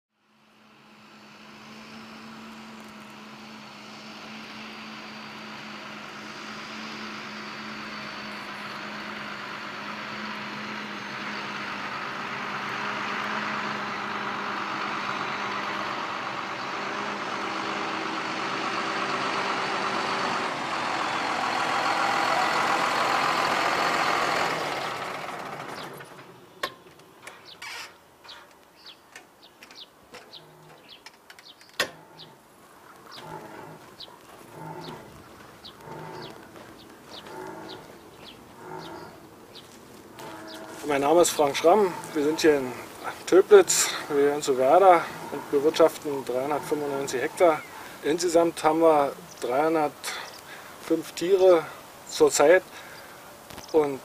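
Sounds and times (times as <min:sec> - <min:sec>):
tractor diesel engine running: 0:00.3 - 0:54.0.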